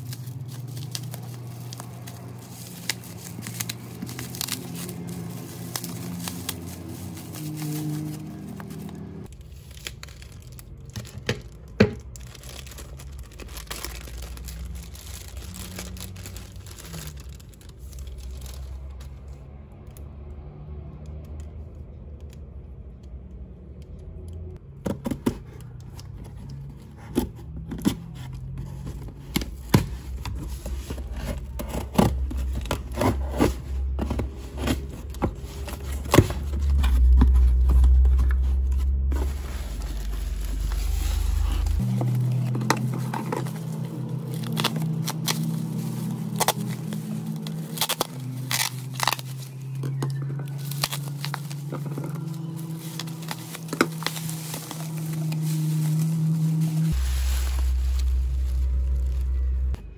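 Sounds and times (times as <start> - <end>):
plastic wrap crinkling and tearing: 0.0 - 19.4, 25.5 - 59.8.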